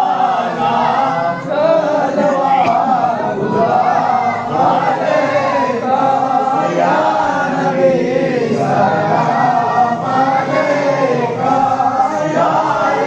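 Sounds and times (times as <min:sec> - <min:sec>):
men and boys chanting in unison: 0:00.0 - 0:13.0.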